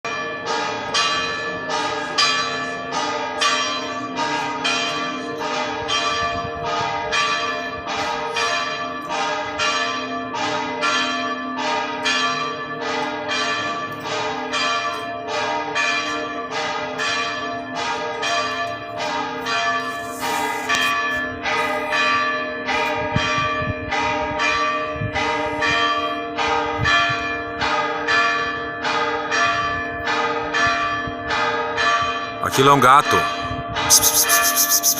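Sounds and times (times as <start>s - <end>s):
church bell ringing: 0.0s - 33.9s.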